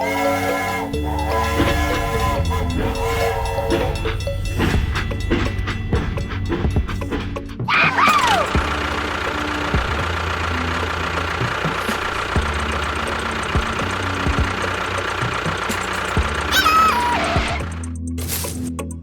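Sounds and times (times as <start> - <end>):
engine running: 0.0 - 18.8.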